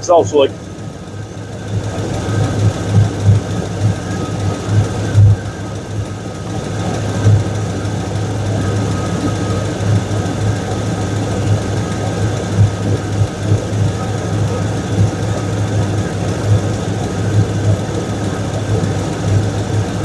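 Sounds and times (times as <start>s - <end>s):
exhaust leak: 0.0s - 20.0s
truck engine idling: 0.0s - 20.0s.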